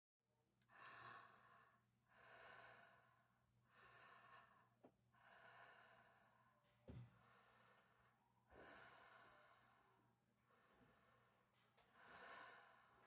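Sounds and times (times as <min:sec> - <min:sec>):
person breathing slowly: 0:00.7 - 0:13.0.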